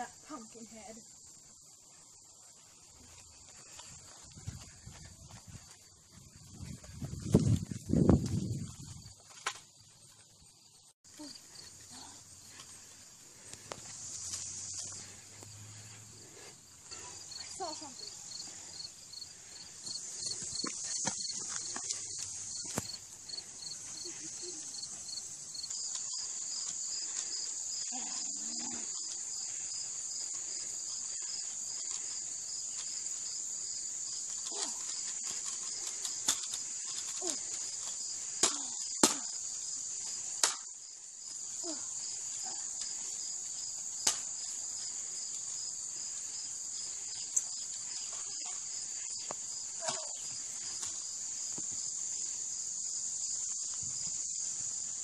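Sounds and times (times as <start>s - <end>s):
insects chorus: 0.0s - 55.0s
pulsing insect trill: 0.0s - 55.0s.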